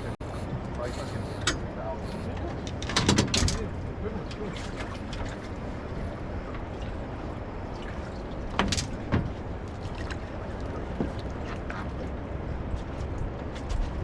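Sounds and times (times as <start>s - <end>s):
small boat on water: 0.0s - 14.0s.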